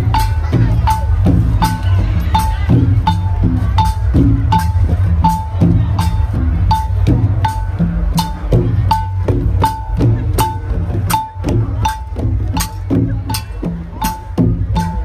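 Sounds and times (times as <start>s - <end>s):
hand drums beating: 0.0s - 15.0s.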